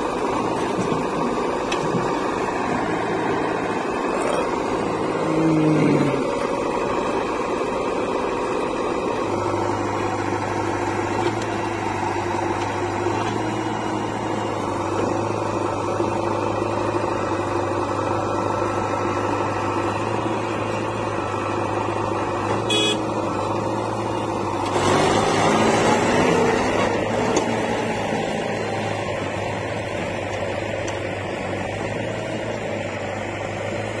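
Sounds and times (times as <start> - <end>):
diesel engines running: 0.0 - 34.0.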